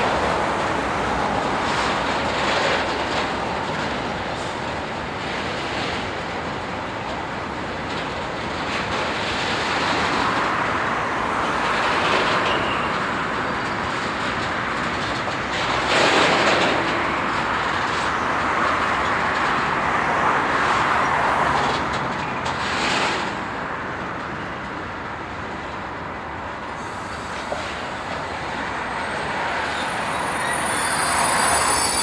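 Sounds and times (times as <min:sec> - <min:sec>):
train rumbling and rattling: 0:00.0 - 0:32.0.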